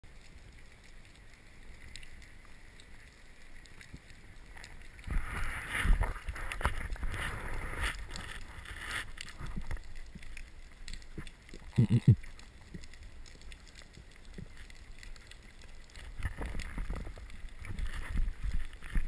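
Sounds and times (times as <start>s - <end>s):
sharp clicks underwater: 0.1s - 19.0s.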